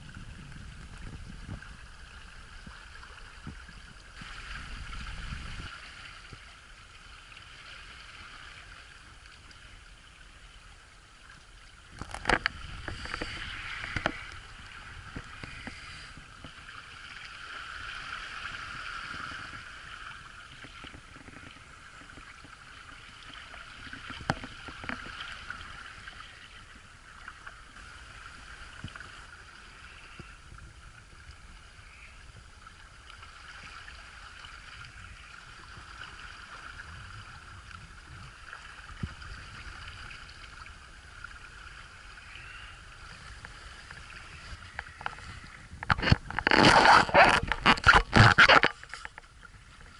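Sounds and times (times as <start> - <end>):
water rushing along a boat hull: 0.0 - 49.9.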